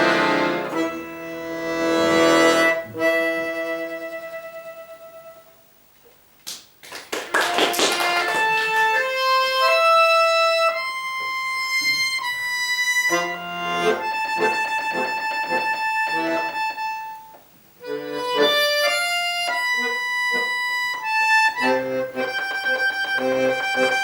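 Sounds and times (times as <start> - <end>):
button accordion playing: 0.0 - 5.5, 7.4 - 24.0.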